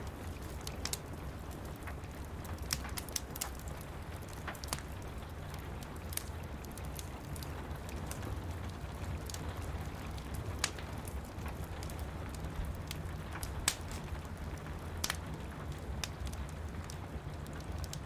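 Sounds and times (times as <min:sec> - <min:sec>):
steady rain: 0:00.0 - 0:18.0
wood fire crackling: 0:00.0 - 0:18.0.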